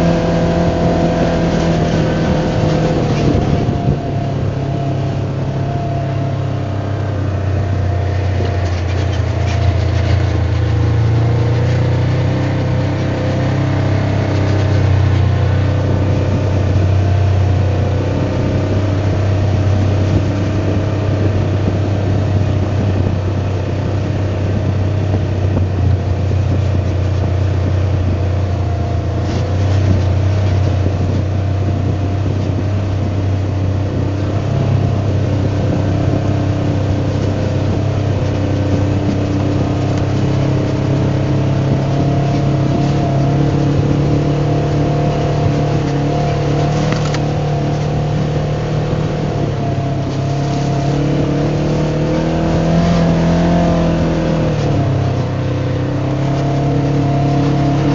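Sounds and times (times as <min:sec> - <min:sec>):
utility vehicle engine droning: 0:00.0 - 0:57.9.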